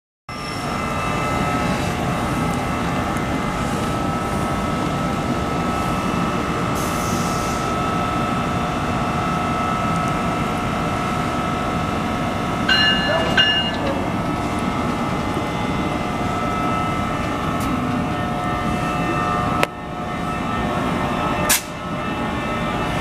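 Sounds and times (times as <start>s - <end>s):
locomotive equipment rumble and whine: 0.3s - 23.0s.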